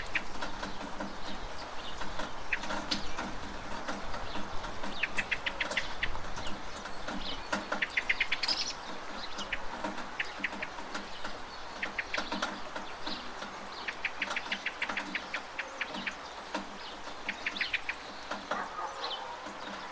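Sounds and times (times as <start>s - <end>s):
bird chirping: 0.0s - 19.9s
steady rain: 0.0s - 19.9s.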